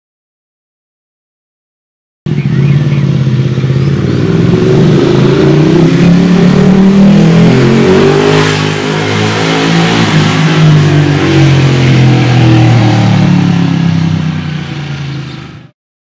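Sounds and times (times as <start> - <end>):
motorcycle engine running: 2.3 - 15.7.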